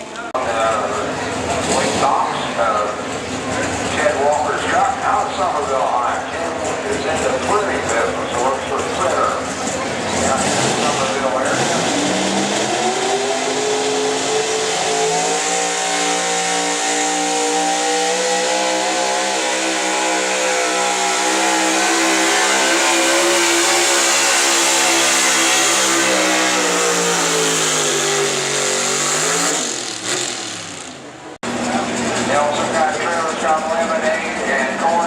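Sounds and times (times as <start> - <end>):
truck engine revving under load: 0.0 - 32.9.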